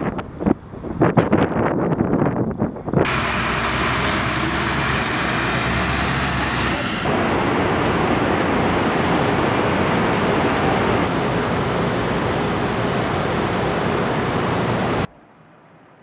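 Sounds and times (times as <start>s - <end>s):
air rushing from blowers: 0.0s - 15.1s.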